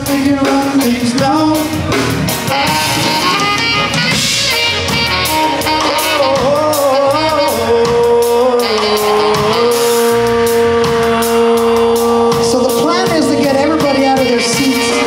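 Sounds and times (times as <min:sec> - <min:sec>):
person singing: 0:00.0 - 0:03.7, 0:05.6 - 0:15.0
live band playing: 0:00.0 - 0:15.0.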